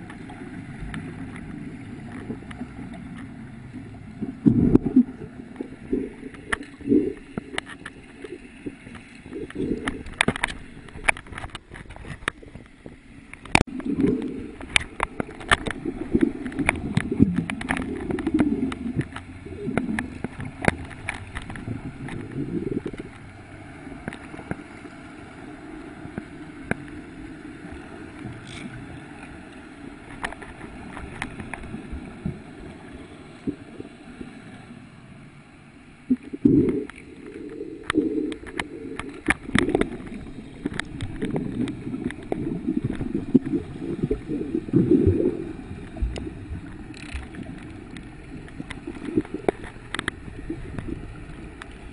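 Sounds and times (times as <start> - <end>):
underwater clicks and knocks: 0.0 - 23.3, 24.0 - 24.7, 30.0 - 32.4, 36.0 - 51.9
muffled underwater sloshing: 0.0 - 51.9.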